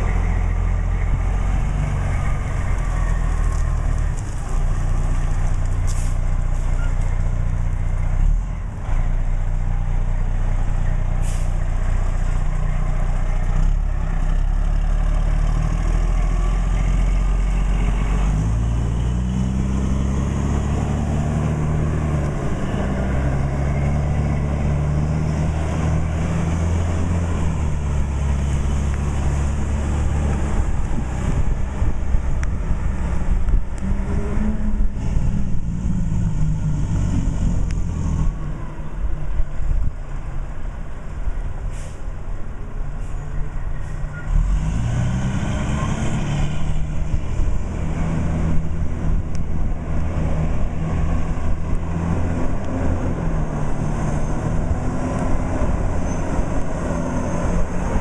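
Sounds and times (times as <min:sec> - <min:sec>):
diesel engine idling and pulling away: 0:00.0 - 0:58.0.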